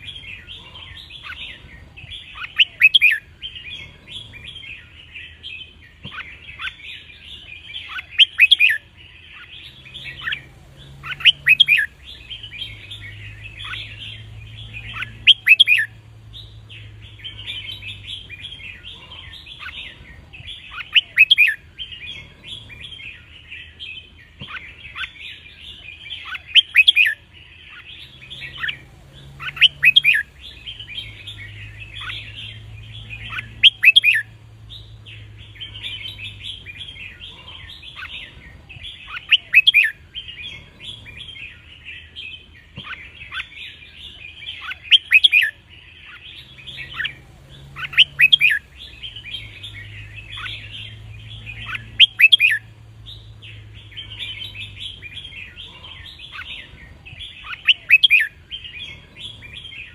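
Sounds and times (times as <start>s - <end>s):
chatter of many birds: 0.0s - 59.9s.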